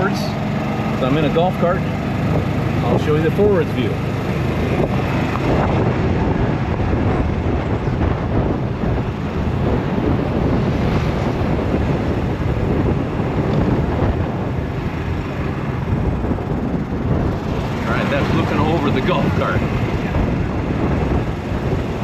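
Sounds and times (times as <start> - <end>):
golf cart running: 0.0 - 22.0
wind buffeting microphone: 0.0 - 22.0.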